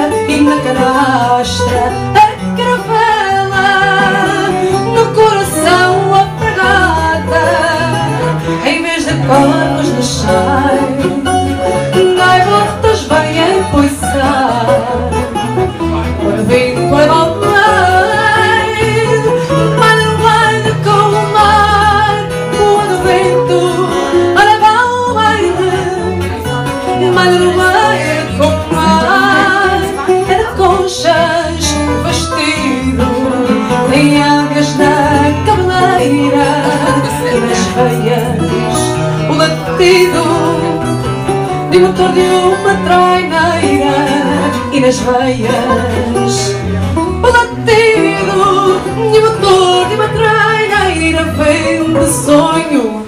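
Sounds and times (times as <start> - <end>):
plucked guitars playing: 0.0 - 53.0
woman singing: 0.0 - 53.0.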